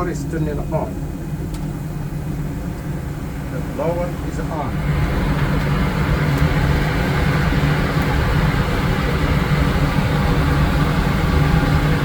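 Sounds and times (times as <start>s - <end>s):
furnace blower fan humming: 0.0s - 12.0s.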